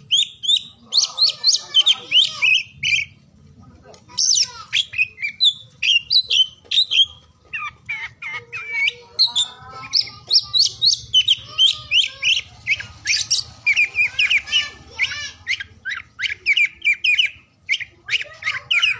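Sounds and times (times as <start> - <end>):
songbird singing whistled notes: 0.0 - 3.2, 4.1 - 18.9.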